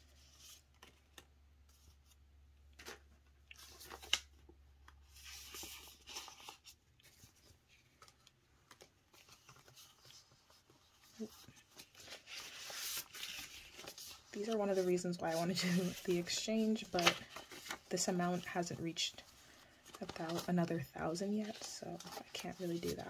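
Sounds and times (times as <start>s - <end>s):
plastic and paper rustling: 0.0s - 23.0s.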